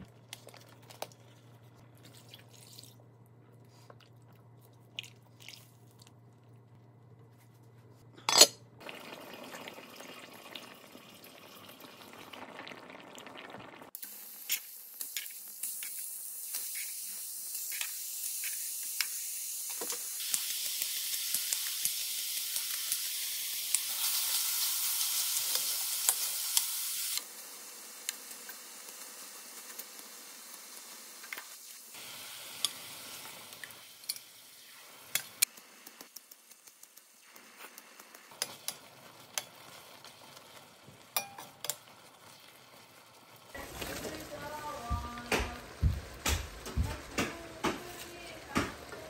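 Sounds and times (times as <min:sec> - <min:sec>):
meat sizzling in a pan: 0:08.9 - 0:49.0.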